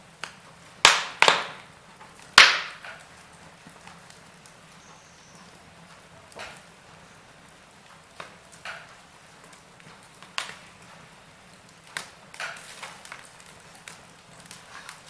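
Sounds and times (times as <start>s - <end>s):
soft steady fire hiss: 0.0s - 15.0s
wood fire popping and snapping: 0.0s - 15.0s.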